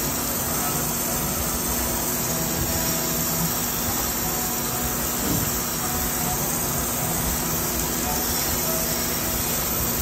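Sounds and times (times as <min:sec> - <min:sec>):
coolant spraying hiss: 0:00.0 - 0:10.0
crankshaft grinder running: 0:00.0 - 0:10.0
steady low hum: 0:00.0 - 0:10.0.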